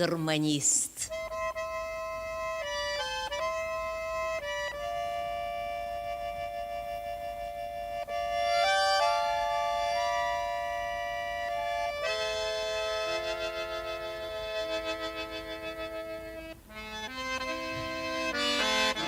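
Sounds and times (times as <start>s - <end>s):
button accordion slow melody: 1.0s - 19.0s.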